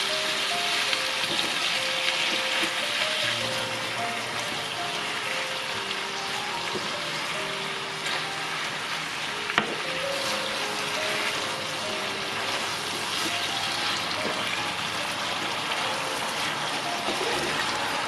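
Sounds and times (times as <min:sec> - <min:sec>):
meat sizzling in a frying pan: 0:00.0 - 0:18.0
wooden spatula stirring: 0:01.2 - 0:18.0.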